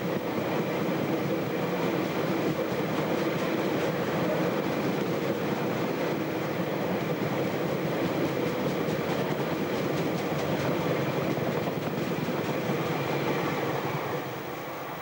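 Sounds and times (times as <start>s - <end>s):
steel wheels on rails: 0.0s - 15.0s.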